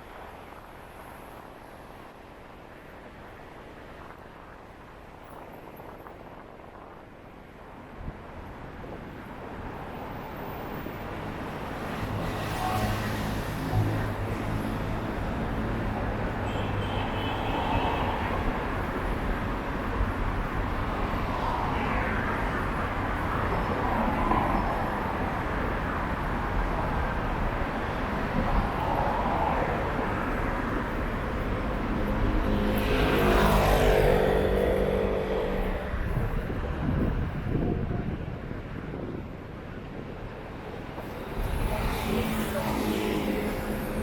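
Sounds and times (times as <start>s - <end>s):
passing cars: 8.7s - 44.0s.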